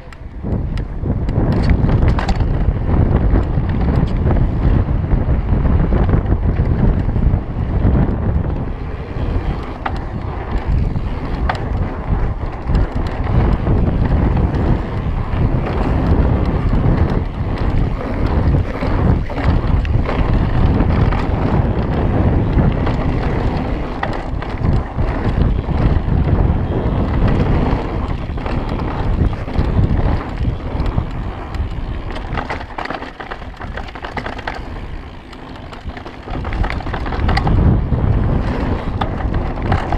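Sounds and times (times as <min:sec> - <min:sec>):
bike clicks and rattles: 0:00.0 - 0:39.9
bike tyre noise: 0:00.0 - 0:39.9
wind buffeting microphone: 0:00.0 - 0:39.9.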